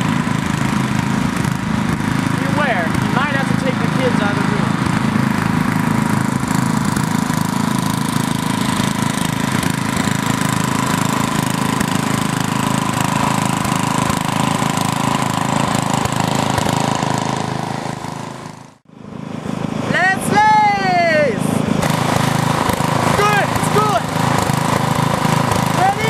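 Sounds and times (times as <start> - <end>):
riding lawn mower engines: 0.0 - 26.0.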